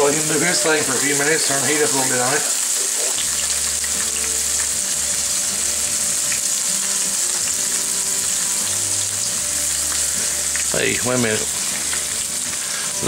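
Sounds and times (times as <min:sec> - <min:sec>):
onion rings deep-frying: 0:00.0 - 0:13.0
steak searing in skillet: 0:00.0 - 0:13.0.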